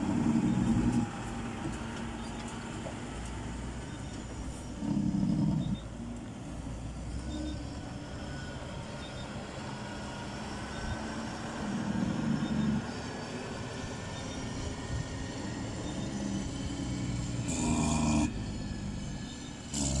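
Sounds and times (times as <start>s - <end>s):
truck engine braking drone: 0.0s - 20.0s.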